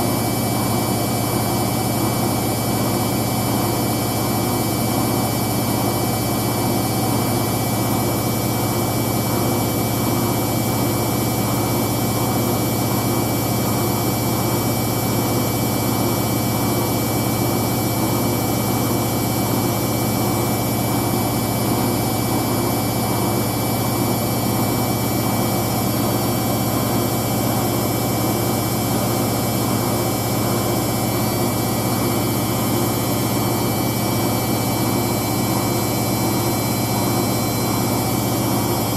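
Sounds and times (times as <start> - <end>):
washing machine spin drone: 0.0 - 38.9.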